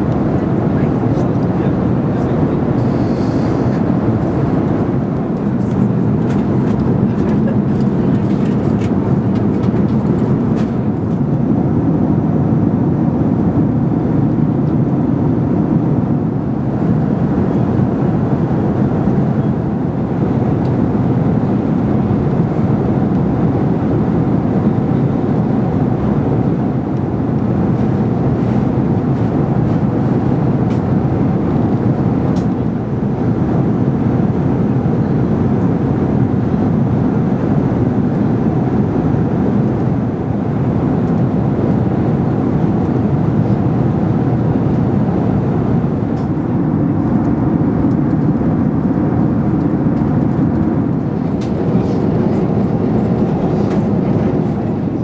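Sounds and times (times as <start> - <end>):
airplane cabin roar in flight: 0.0 - 55.0.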